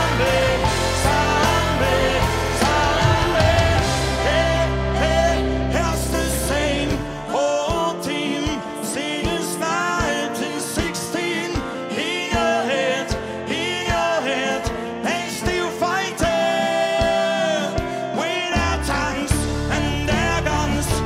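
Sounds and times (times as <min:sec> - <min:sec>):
man singing rock song: 0:00.0 - 0:21.0
rock band playing: 0:00.0 - 0:21.0.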